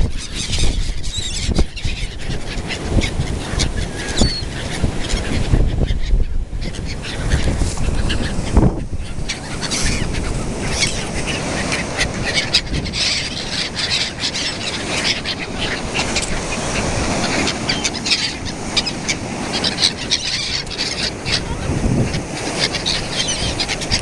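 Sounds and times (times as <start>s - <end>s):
gulls calling harshly: 0.0s - 24.0s.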